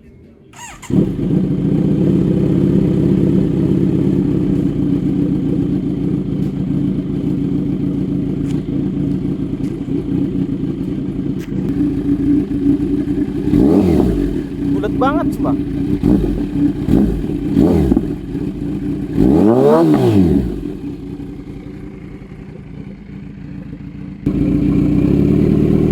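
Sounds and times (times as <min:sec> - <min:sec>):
motorcycle engine idling: 0:00.5 - 0:25.9.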